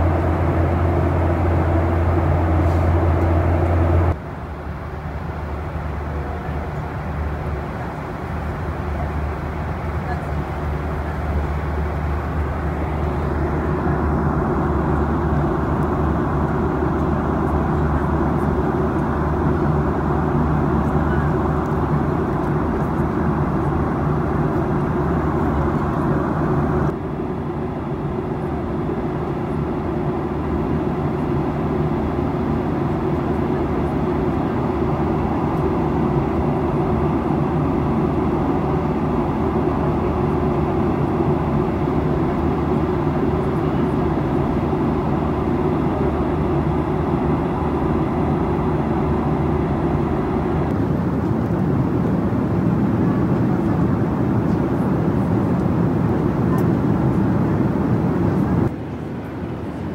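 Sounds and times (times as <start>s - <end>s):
jet cabin low rumble: 0.0s - 59.9s
steady hums: 0.0s - 59.9s.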